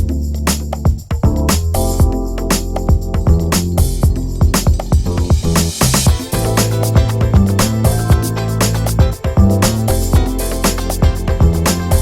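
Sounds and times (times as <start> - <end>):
upbeat funk music: 0.0 - 12.0.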